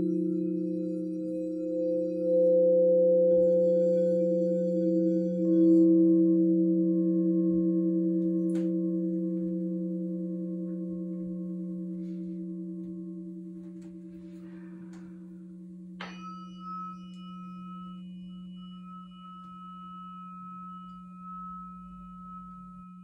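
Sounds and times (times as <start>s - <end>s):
singing bowls ringing: 0.0s - 23.0s
higher-pitched bowl struck: 3.4s - 23.0s.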